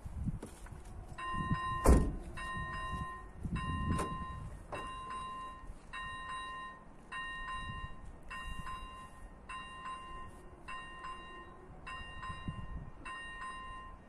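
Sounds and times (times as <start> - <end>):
level-crossing bell ringing: 1.2 - 1.8, 2.4 - 14.0.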